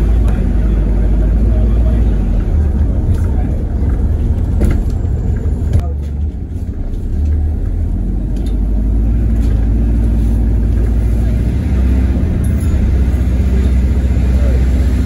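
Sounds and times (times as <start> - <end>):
bus drivetrain rumble: 0.0 - 15.0.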